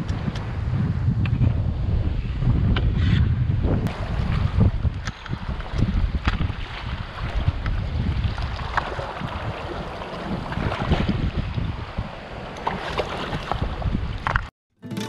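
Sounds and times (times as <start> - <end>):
wind buffeting microphone: 0.0 - 14.5.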